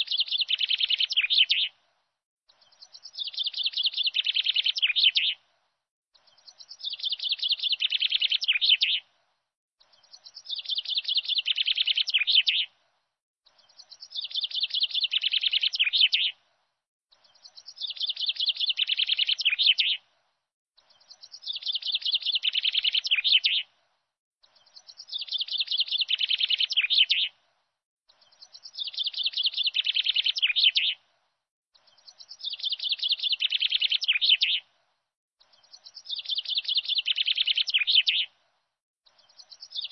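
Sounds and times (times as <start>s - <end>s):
rapid bird chirps: 0.0s - 1.8s, 2.5s - 5.4s, 6.1s - 9.1s, 9.8s - 12.8s, 13.4s - 16.4s, 17.1s - 20.0s, 20.8s - 23.7s, 24.4s - 27.4s, 28.1s - 31.0s, 31.7s - 34.7s, 35.4s - 38.4s, 39.0s - 39.9s.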